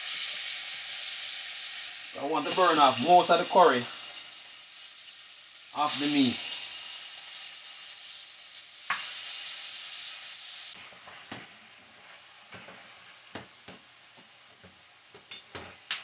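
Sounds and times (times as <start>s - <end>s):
meat sizzling in hot oil: 0.0s - 14.2s.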